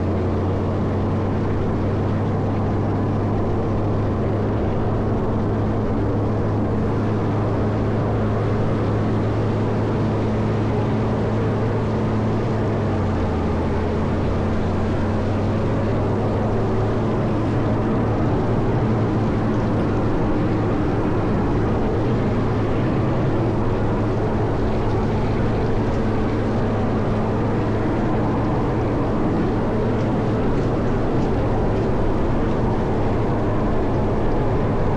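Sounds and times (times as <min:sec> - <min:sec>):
diesel engine running under load: 0:00.0 - 0:34.9.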